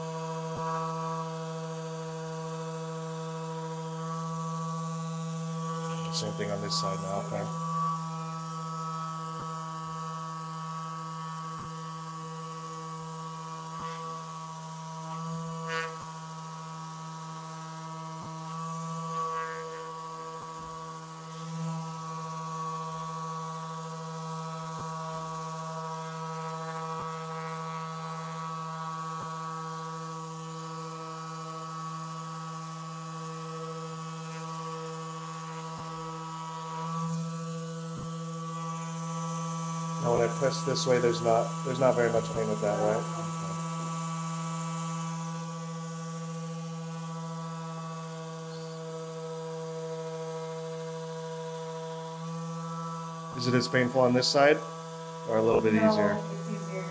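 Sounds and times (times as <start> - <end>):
vibration device buzzing: 0.0 - 56.9.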